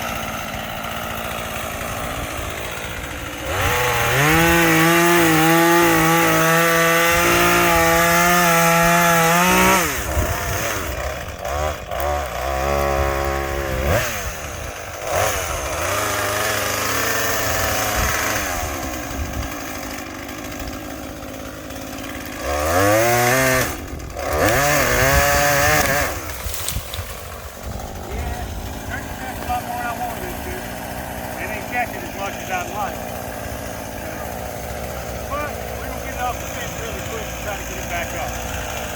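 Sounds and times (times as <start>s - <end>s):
chainsaw engine revving and idling: 0.0s - 38.9s.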